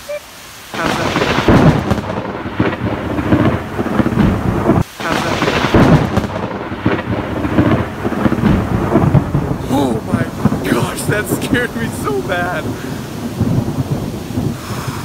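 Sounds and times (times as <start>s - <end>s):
heavy rain: 0.0s - 15.0s
thunderclap rumbling: 0.7s - 15.0s.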